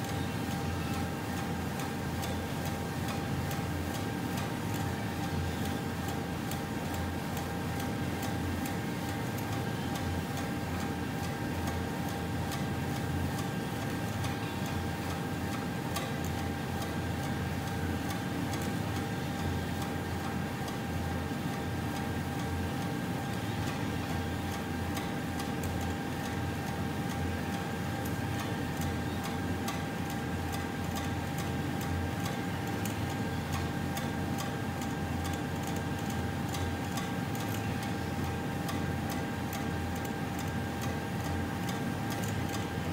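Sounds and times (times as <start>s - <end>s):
gearmotor hum and whine: 0.0s - 42.9s
rapid ticking from conveyor drive: 0.0s - 42.9s.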